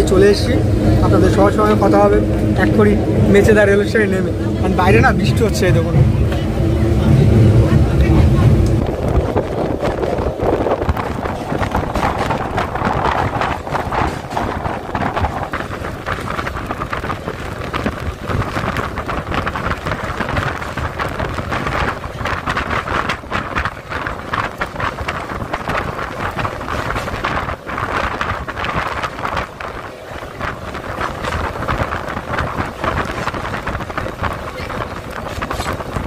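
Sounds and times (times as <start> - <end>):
rain falling: 0.0 - 36.0
train rumbling and rattling: 0.0 - 36.0
wind buffeting microphone: 0.0 - 36.0.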